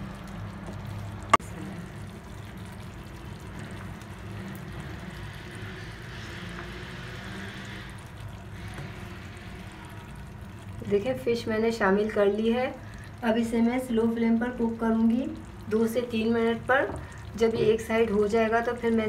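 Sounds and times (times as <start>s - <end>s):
sauce sizzling in a pot: 0.8s - 19.0s.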